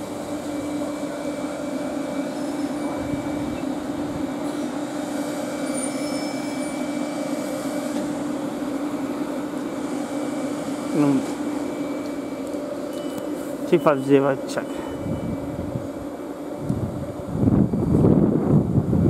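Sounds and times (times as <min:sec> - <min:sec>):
electric traction hum: 0:00.0 - 0:19.0
train wheels rolling on rail: 0:00.0 - 0:19.0.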